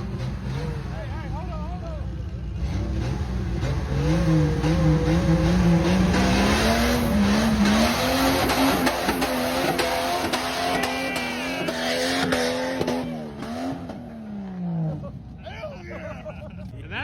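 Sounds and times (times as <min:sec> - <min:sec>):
engine working under load: 0:00.0 - 0:15.4.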